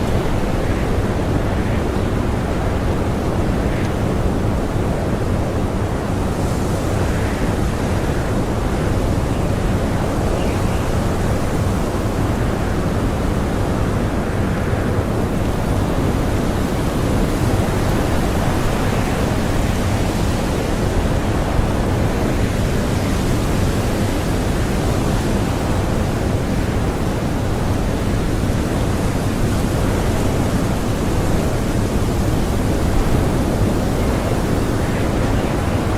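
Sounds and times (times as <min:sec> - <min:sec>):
blizzard wind howling: 0:00.0 - 0:35.9.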